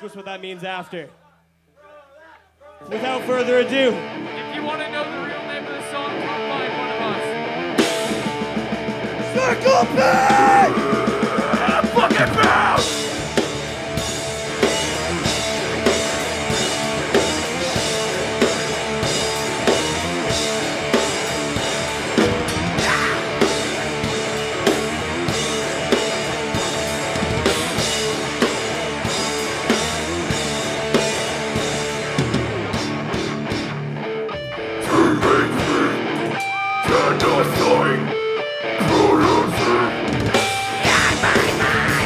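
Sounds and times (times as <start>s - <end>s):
heavy rock band playing: 2.8s - 42.0s.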